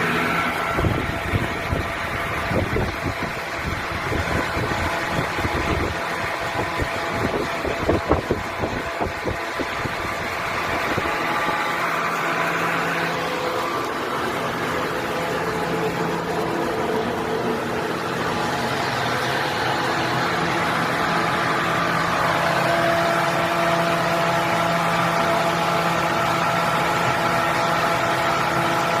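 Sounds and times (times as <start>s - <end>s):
electric blower fan running: 0.0s - 29.0s.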